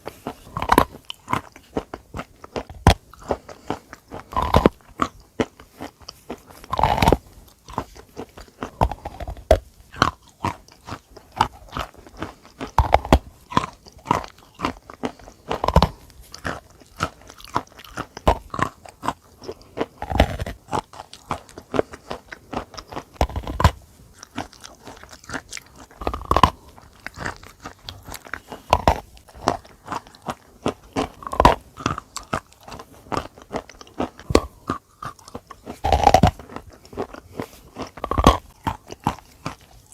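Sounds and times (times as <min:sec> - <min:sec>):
person crunching chalk: 0:00.0 - 0:39.9.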